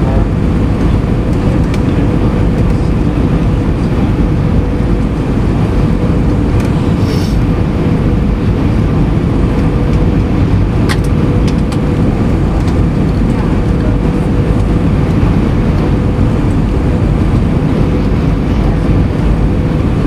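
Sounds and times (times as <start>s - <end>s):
jet engine roar in cabin: 0.0s - 20.0s
steady hum: 0.0s - 20.0s.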